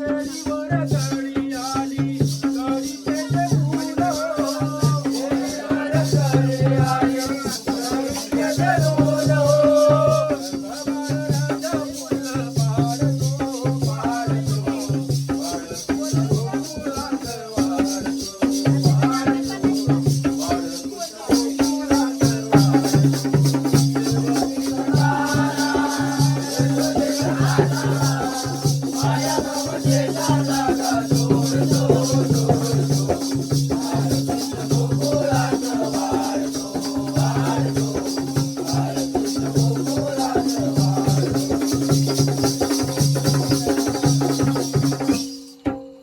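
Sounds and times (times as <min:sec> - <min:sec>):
fast continuous jingling: 0:00.0 - 0:45.4.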